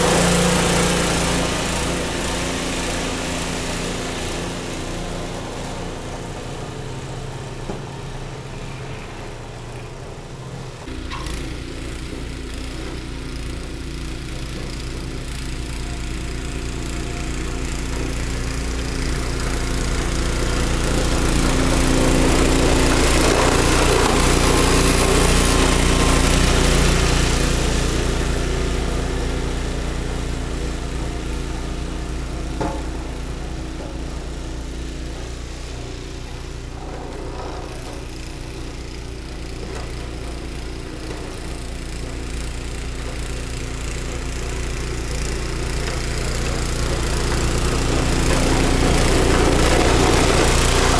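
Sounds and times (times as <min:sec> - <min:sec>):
snowblower engine running: 0:00.0 - 0:50.9.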